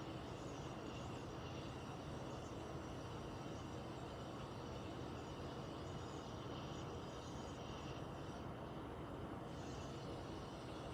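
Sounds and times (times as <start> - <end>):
air conditioning rumble: 0.0 - 10.9.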